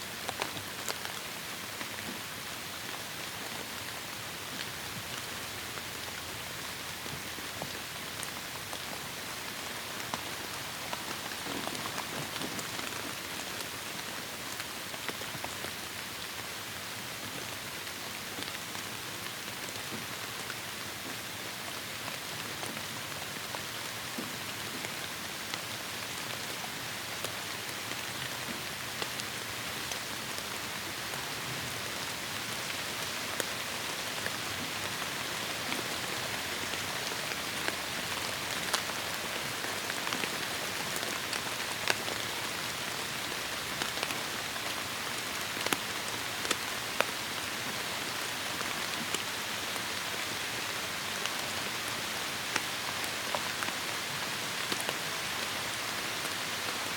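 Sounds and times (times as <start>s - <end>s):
raindrops striking close by: 0.1s - 56.9s.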